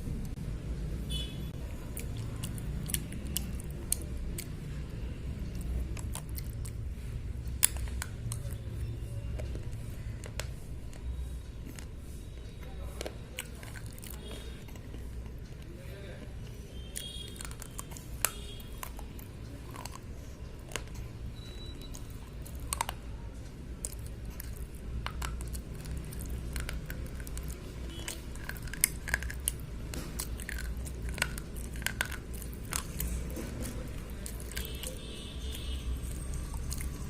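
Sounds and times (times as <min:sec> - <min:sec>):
slate pencils crunching when chewed: 0:01.6 - 0:37.0.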